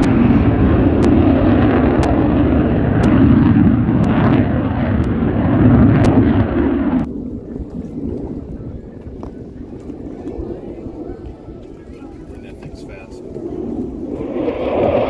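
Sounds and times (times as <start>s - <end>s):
aircraft engine roar: 0.0s - 15.0s.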